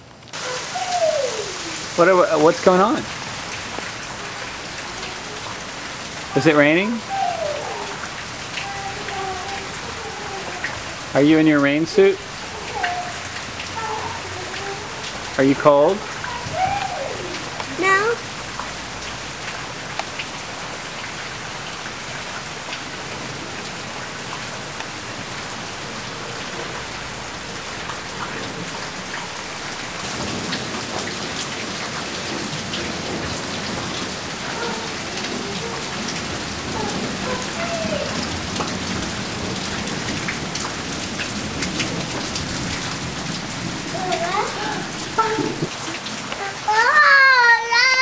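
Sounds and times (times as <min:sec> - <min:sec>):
rain on a wooden deck: 0:00.0 - 0:48.0.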